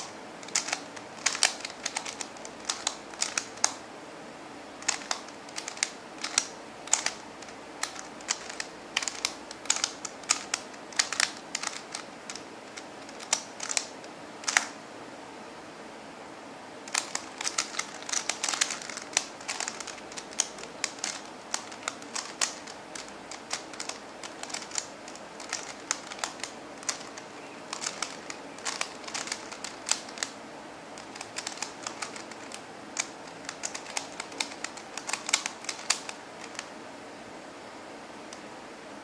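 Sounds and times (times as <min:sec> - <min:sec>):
plastic puzzle pieces clicking: 0:00.0 - 0:03.8, 0:04.8 - 0:14.8, 0:16.9 - 0:30.4, 0:31.0 - 0:36.7.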